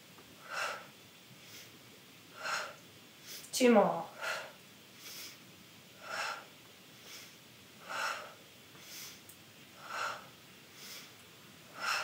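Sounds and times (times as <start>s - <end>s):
woman breathing hard: 0.4s - 3.5s, 4.1s - 12.0s.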